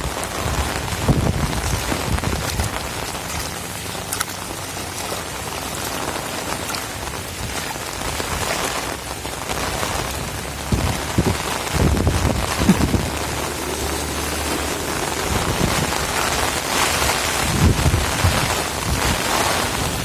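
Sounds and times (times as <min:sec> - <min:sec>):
heavy rain pouring: 0:00.0 - 0:20.0
low rumbling surges: 0:00.0 - 0:20.0.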